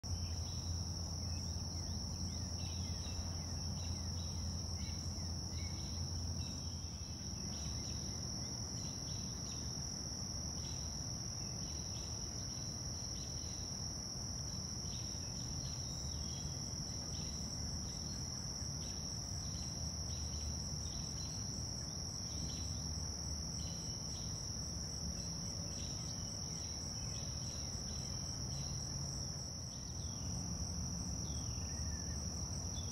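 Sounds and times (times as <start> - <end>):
insect chirps: 0.0 - 32.9
insect high-pitched trill: 0.1 - 32.9.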